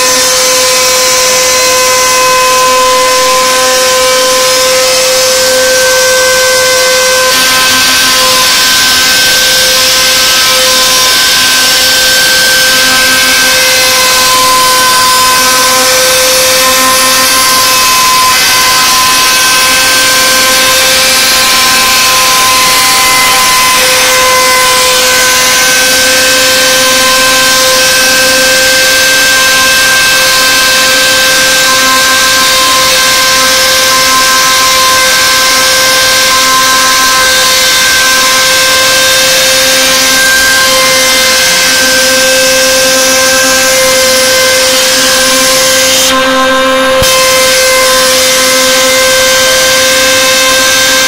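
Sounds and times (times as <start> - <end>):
cnc router spindle whine: 0.0 - 51.0.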